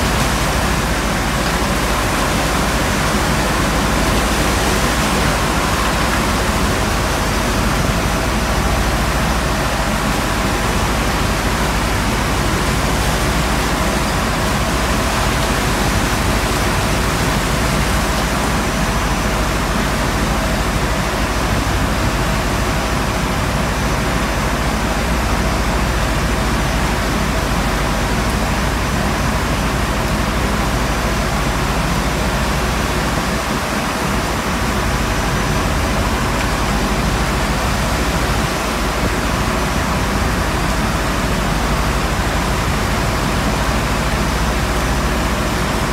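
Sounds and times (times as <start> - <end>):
seawater rushing across deck: 0.0 - 45.9
steady hum: 0.0 - 45.9.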